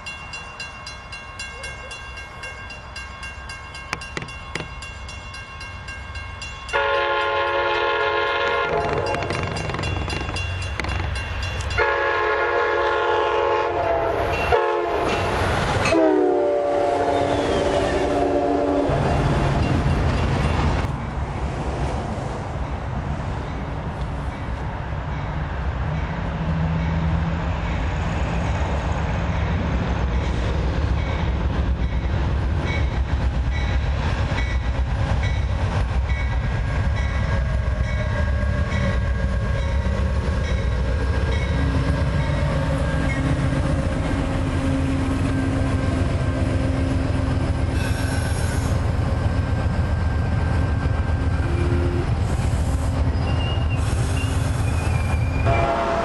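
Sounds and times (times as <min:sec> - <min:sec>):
train passing with rail noise: 0:00.0 - 0:56.0.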